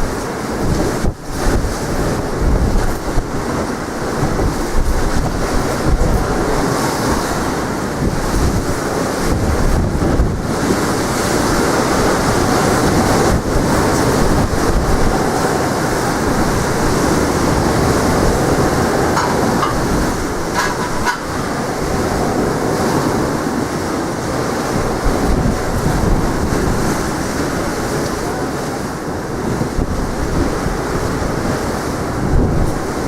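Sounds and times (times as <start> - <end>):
waves breaking on shore: 0.0 - 33.0
wind buffeting microphone: 0.0 - 33.0.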